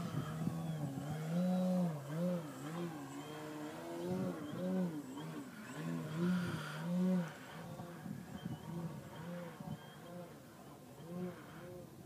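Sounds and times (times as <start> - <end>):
electric motor propeller buzzing: 0.0 - 12.0.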